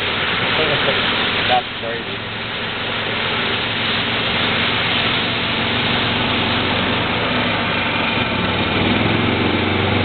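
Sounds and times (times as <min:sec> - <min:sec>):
golf cart engine running: 0:00.0 - 0:10.0
loud even hiss: 0:00.0 - 0:10.0.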